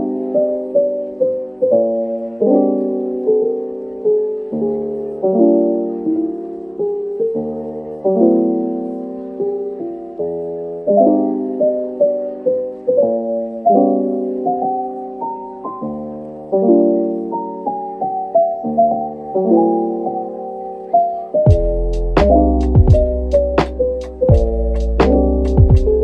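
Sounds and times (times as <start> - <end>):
soft lo-fi piano music: 0.0 - 26.0.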